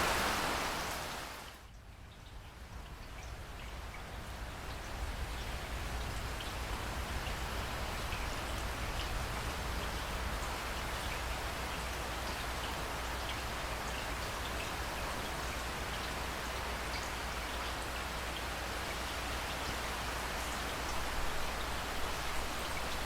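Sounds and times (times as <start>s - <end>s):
rain falling: 0.0s - 23.0s
raindrops ticking on a surface: 0.0s - 23.0s.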